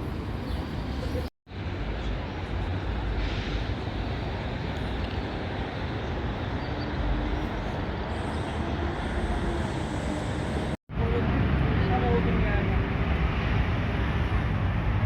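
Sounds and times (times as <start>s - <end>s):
vehicle road noise rumble: 0.0s - 15.0s.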